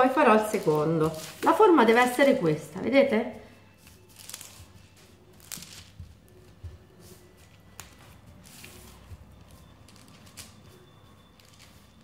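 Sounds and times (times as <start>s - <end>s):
parchment paper rustling: 0.0s - 2.7s, 3.4s - 12.0s.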